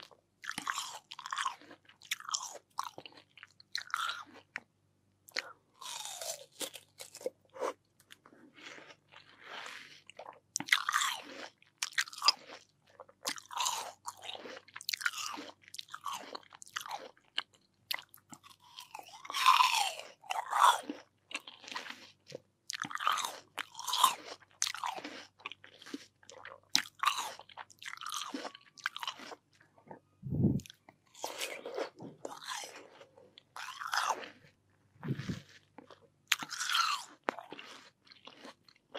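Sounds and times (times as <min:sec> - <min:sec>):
chewing crunchy watermelon: 0:00.0 - 0:04.7, 0:05.3 - 0:38.9.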